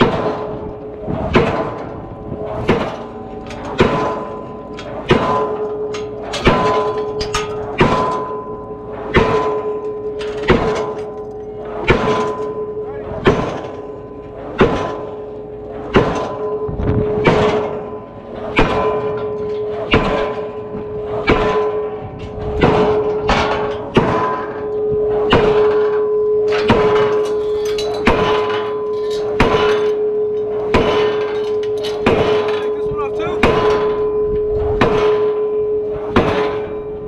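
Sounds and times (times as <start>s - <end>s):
pile hammer blows: 0.0s - 37.0s
steady tone: 0.0s - 37.0s.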